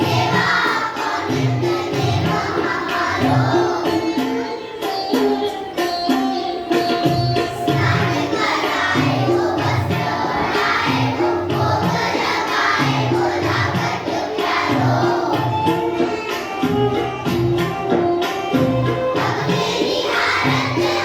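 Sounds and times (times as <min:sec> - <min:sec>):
voices singing together: 0:00.0 - 0:06.8, 0:07.4 - 0:16.1, 0:19.1 - 0:21.0
instrumental backing with steady beat: 0:00.0 - 0:21.0.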